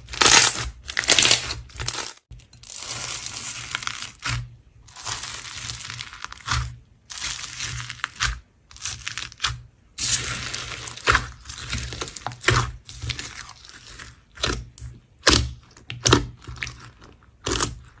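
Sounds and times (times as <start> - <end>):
slime squished and crackling: 0.0 - 18.0.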